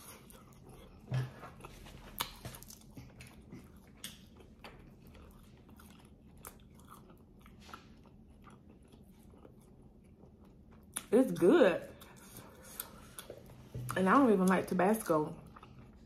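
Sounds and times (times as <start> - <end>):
biting and chewing food: 0.0 - 16.0.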